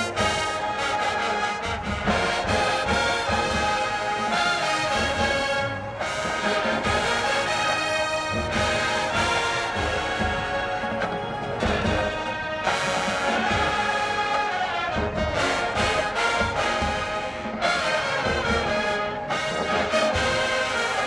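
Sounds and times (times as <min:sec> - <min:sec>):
marching band brass: 0:00.0 - 0:21.0
marching drums: 0:00.0 - 0:21.0.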